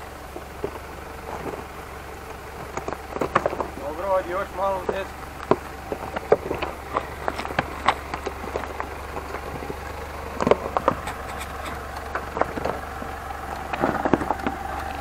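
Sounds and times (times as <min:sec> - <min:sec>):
engine idling at low speed: 0:00.0 - 0:15.0
stones crunching under tyres: 0:00.0 - 0:15.0.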